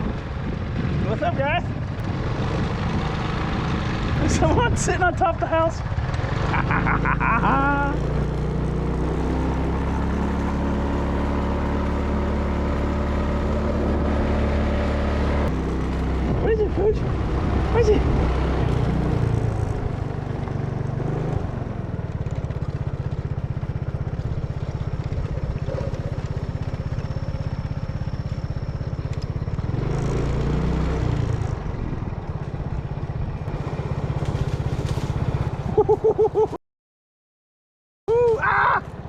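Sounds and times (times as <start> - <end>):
pulsing low motor rumble: 0.0 - 36.5.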